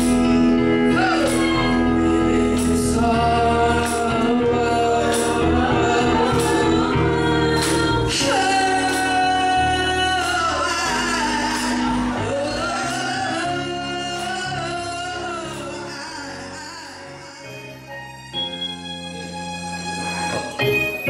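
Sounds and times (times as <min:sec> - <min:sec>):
live band playing: 0:00.0 - 0:21.0
woman singing: 0:00.9 - 0:17.9.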